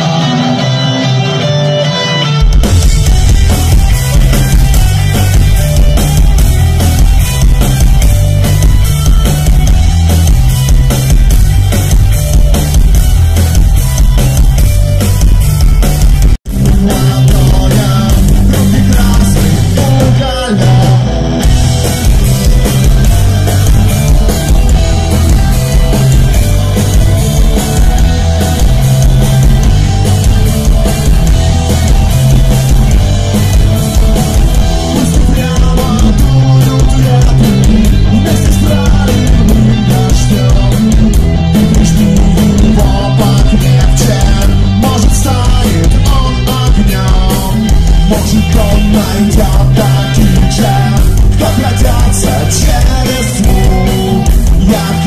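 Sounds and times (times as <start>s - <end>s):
distorted electric guitars: 0.0s - 55.0s
drum kit: 0.0s - 55.0s
electric bass guitar: 0.0s - 55.0s.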